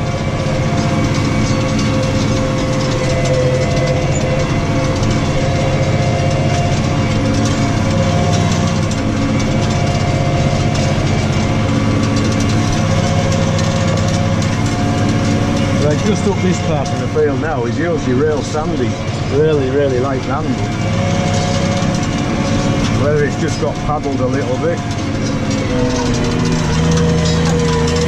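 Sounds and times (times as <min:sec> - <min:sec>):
tractor engine rumbling under load: 0:00.0 - 0:28.0.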